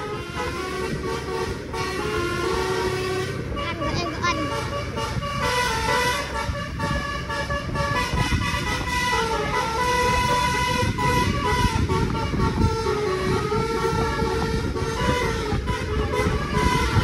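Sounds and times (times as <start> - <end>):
musical horn playing a tune: 0.0 - 17.0
wind and road rumble: 0.0 - 17.0.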